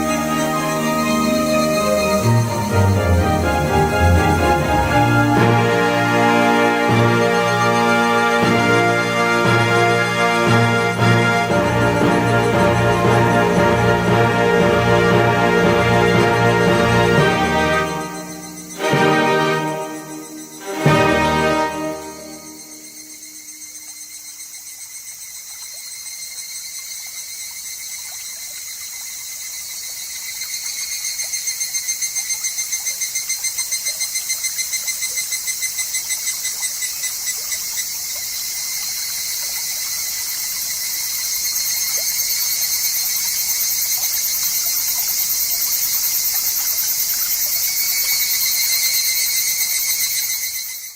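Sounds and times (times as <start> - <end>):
cicadas calling: 0.0 - 50.9
faint trickling stream: 0.0 - 50.9.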